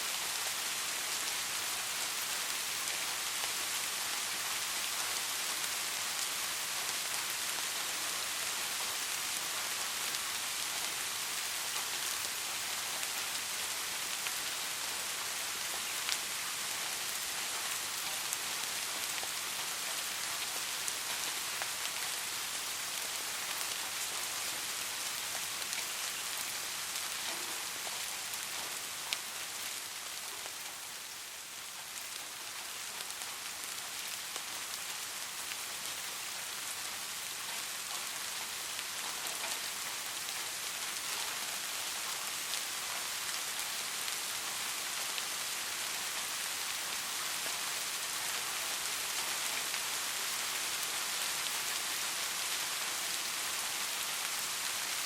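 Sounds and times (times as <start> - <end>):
soft rain falling: 0.0 - 55.0
raindrops ticking on surface: 0.1 - 55.0.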